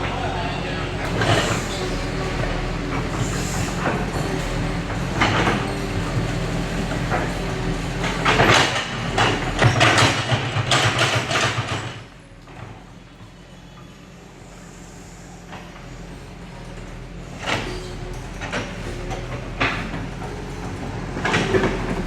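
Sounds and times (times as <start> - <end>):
diesel engine under load: 0.0 - 22.0
steel tracks clanking and squealing: 0.0 - 22.0.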